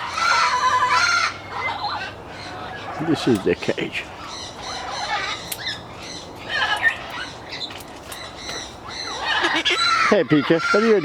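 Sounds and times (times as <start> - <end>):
parrots squawking: 0.0 - 11.0.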